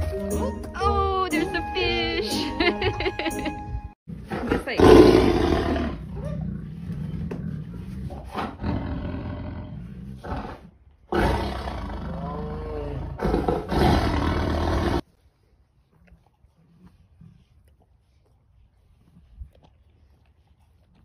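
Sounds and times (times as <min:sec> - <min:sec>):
tiger growling: 0:04.1 - 0:21.0.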